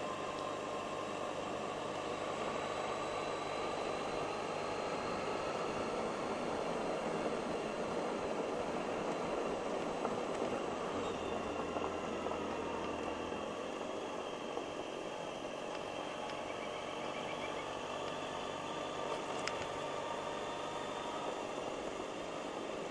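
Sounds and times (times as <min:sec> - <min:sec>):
road and wind noise: 0:00.0 - 0:22.9
scooter engine running: 0:00.0 - 0:22.9.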